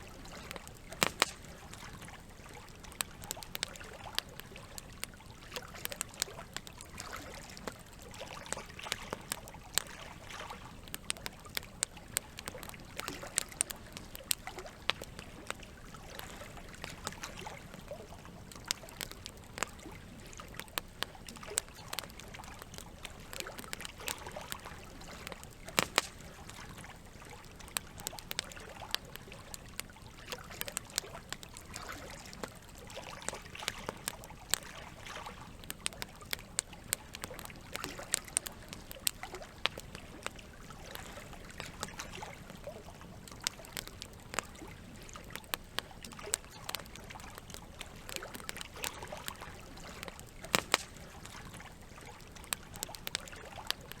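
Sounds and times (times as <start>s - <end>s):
campfire crackling and popping: 0.0s - 54.0s
trickling water: 0.0s - 54.0s.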